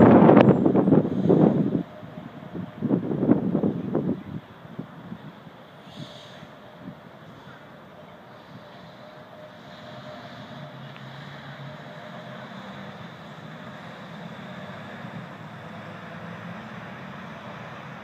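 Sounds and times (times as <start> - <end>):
city street traffic: 0.0 - 18.0
low engine hum: 0.0 - 18.0.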